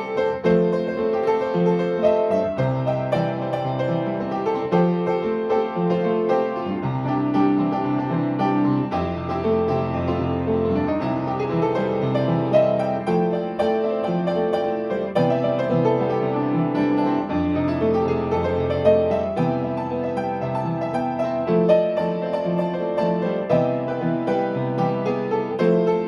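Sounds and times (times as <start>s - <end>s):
solo piano playing: 0.0s - 26.0s.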